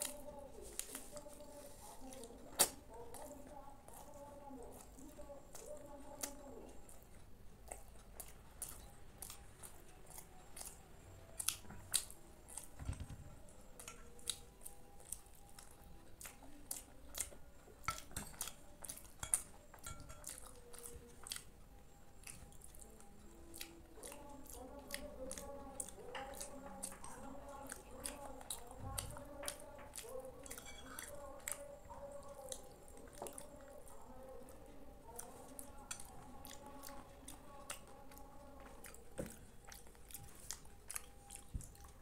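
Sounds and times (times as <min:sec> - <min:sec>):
wet chewing and lip smacks: 0:00.0 - 0:12.8, 0:13.4 - 0:42.0.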